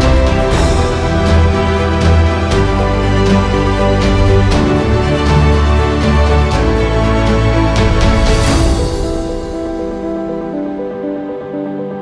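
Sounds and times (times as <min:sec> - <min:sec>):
background music with soft beat: 0:00.0 - 0:11.6.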